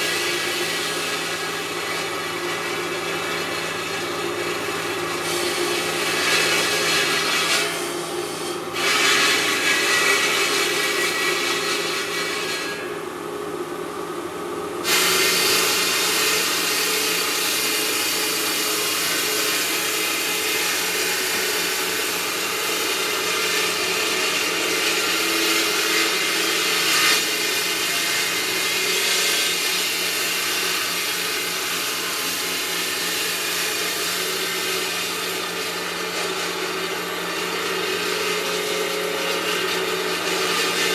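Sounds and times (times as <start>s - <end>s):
stone cutting machinery running: 0.0s - 40.9s.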